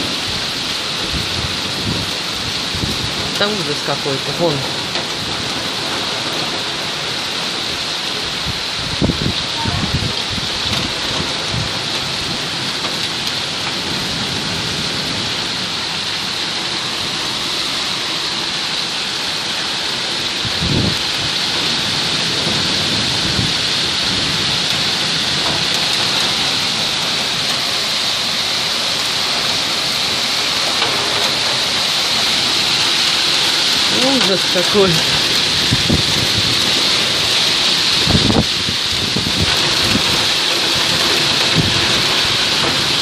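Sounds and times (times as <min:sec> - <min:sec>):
heavy rain on street and cars: 0:00.0 - 0:43.0.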